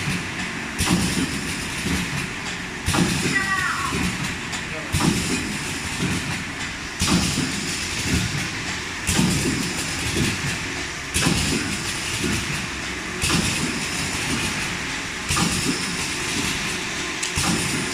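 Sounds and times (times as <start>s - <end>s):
machine knocking: 0.0s - 17.9s
steady machine hum: 0.0s - 17.9s.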